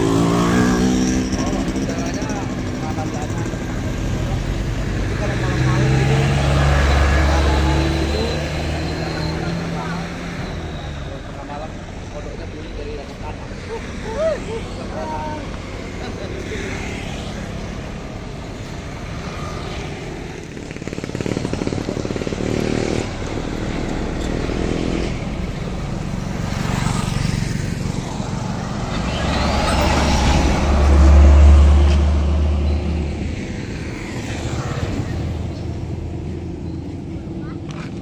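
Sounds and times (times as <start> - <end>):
deep rumble of passing vehicle: 0.0 - 38.0
motorcycles passing: 0.0 - 38.0.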